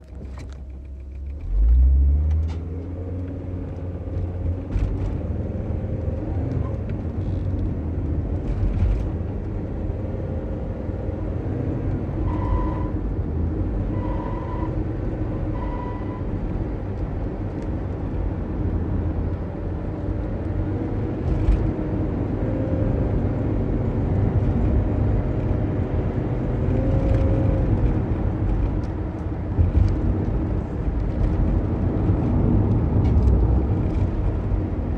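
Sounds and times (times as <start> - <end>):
van engine rumbling and revving: 0.0 - 34.9.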